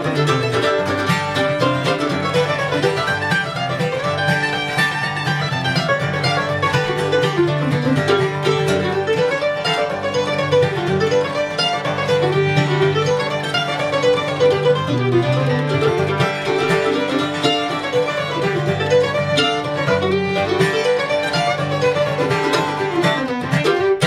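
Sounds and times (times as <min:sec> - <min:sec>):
acoustic guitar: 0:00.0 - 0:24.0
mandolin picking: 0:00.0 - 0:24.0.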